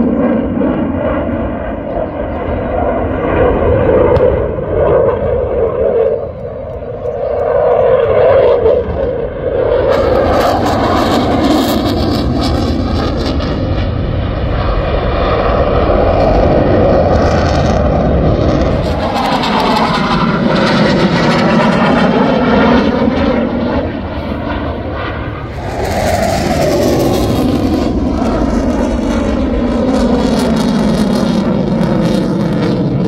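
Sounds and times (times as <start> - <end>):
fighter jet engine roar: 0.0 - 33.0.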